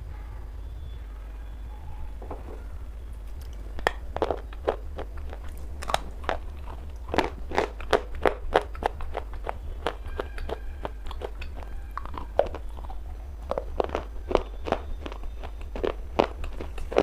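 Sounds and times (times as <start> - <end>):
steady low hum: 0.0 - 17.0
crunching of stone being chewed: 3.3 - 17.0.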